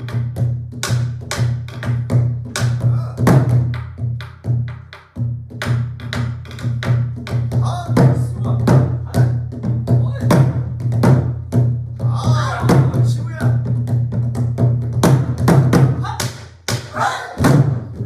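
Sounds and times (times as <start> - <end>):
barrel drums played together: 0.0 - 18.0.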